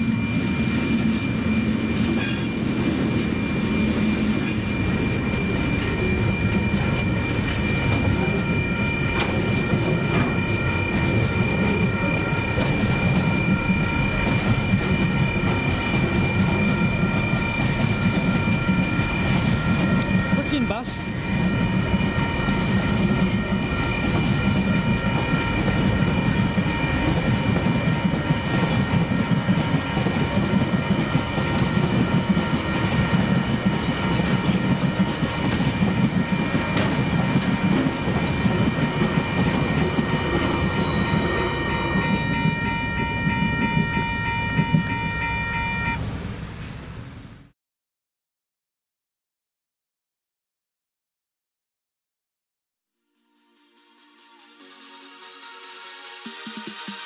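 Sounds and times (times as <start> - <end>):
crossing bell ringing: 0.0 - 46.1
train wagons rumbling and clattering: 0.0 - 47.5.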